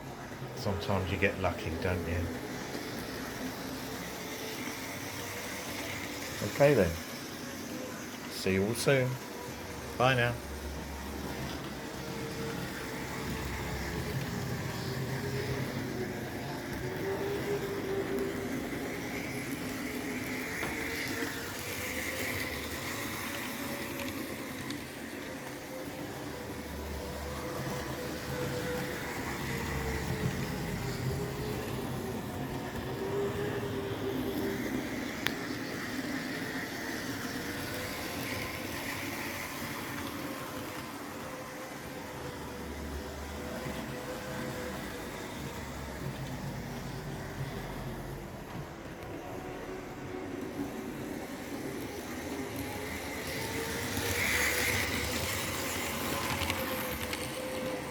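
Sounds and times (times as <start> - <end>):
model train motor whine: 0.0 - 57.9
wheels rumbling on rails: 0.0 - 57.9.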